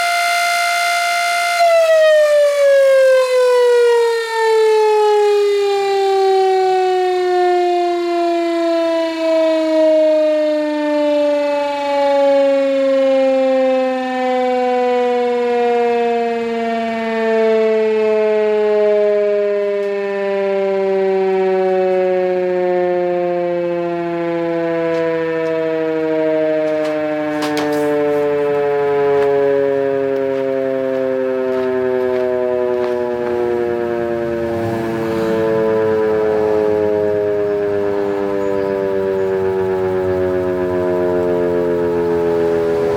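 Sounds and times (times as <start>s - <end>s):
air-raid siren winding down: 0.0s - 42.9s.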